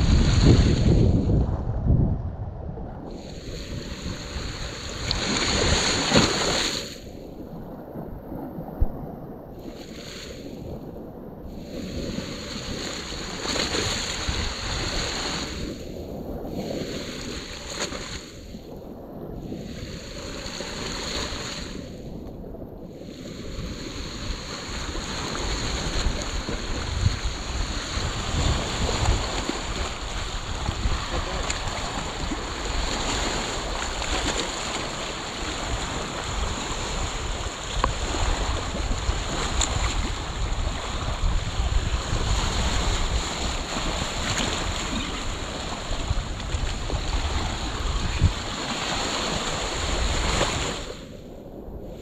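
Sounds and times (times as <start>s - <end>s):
waves washing in shallows: 0.0s - 52.0s
wind on microphone: 0.0s - 52.0s.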